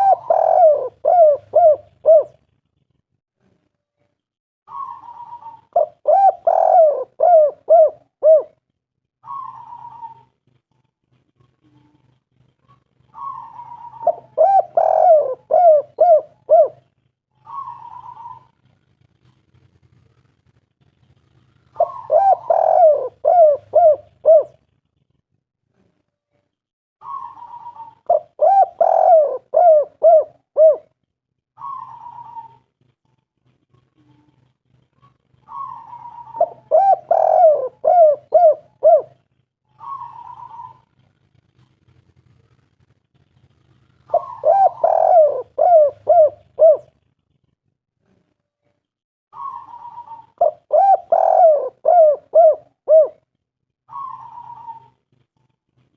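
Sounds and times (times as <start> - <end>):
dove cooing: 0.0 - 2.8, 4.7 - 19.4, 20.9 - 25.0, 27.0 - 31.0, 31.6 - 41.8, 43.6 - 48.3, 49.4 - 53.3, 53.9 - 55.5.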